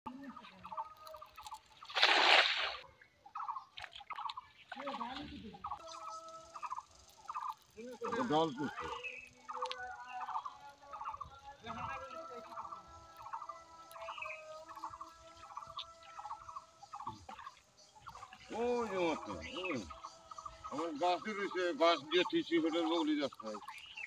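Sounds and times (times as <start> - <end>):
birds warbling: 0.1 - 24.0.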